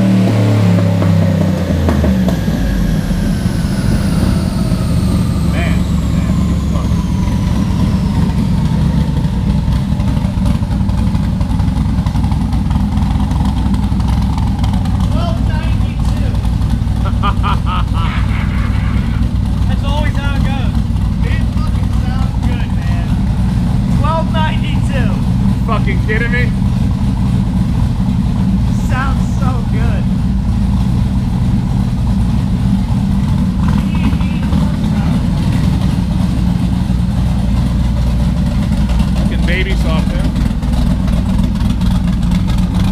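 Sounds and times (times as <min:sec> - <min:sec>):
car engine rumbling: 0:00.0 - 0:42.9.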